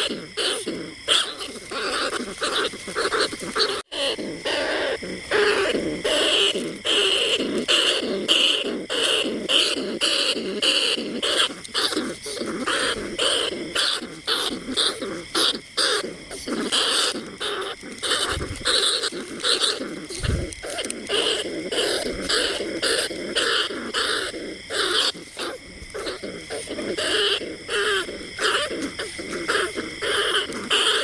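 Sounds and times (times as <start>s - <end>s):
rat squeaking cries: 0.0s - 31.0s.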